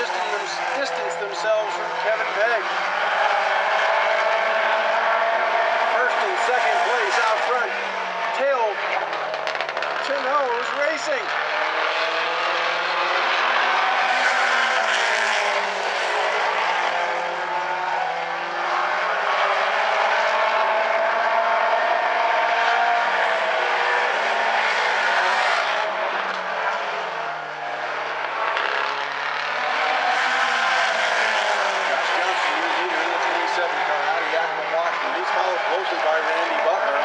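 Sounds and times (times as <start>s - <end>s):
race car engines passing by: 0.0s - 37.0s.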